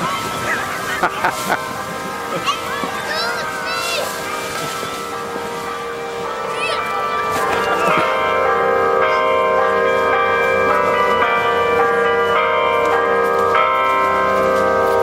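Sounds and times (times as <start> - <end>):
bells ringing: 0.0 - 15.0.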